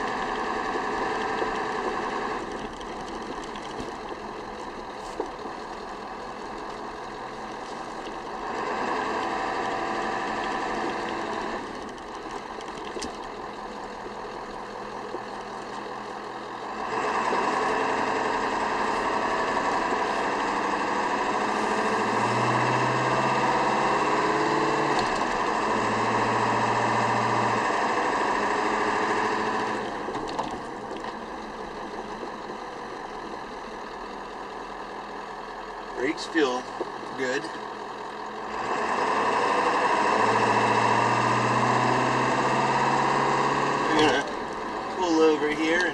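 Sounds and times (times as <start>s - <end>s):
diesel truck engine accelerating: 0.0s - 45.9s.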